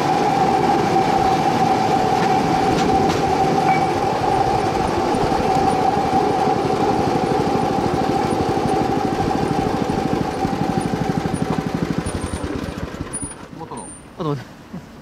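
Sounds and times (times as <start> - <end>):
small engine chugging: 0.0 - 14.1
steady whine: 0.0 - 14.1.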